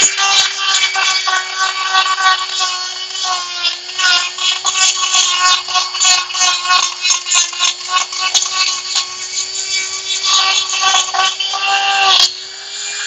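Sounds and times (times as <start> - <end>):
die grinder whining into wood: 0.0 - 13.0.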